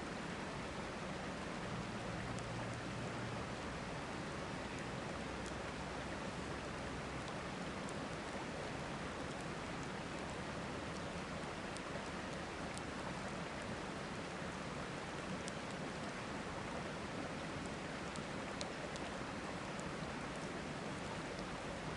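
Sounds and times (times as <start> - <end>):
river rushing: 0.0 - 21.9
campfire crackling: 0.6 - 21.9.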